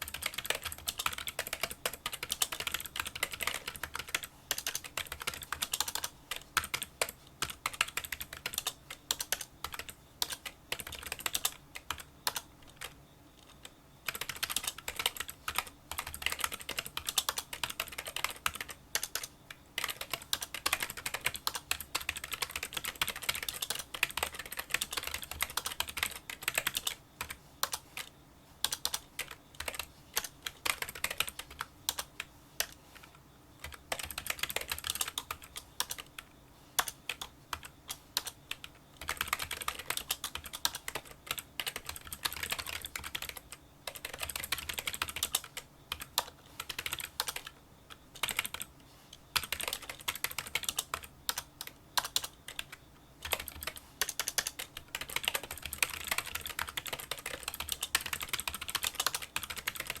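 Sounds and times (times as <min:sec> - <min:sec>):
fast typing on keyboard: 0:00.0 - 0:48.7, 0:49.3 - 1:00.0.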